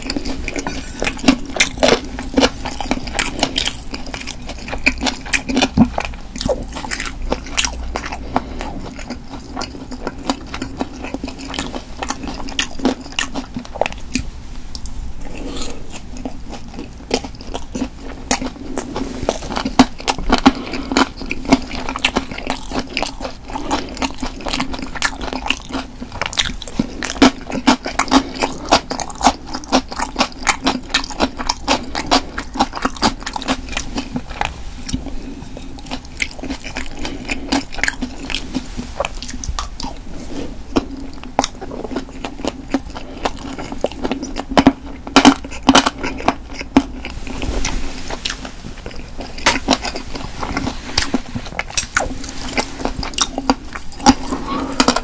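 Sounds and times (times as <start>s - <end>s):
crunchy chewing: 0.0s - 55.0s
wet mouth sounds: 0.0s - 55.0s.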